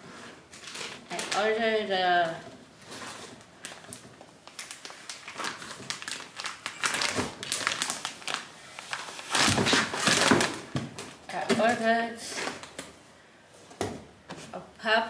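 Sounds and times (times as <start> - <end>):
packaging crinkling and rustling: 0.3 - 13.0.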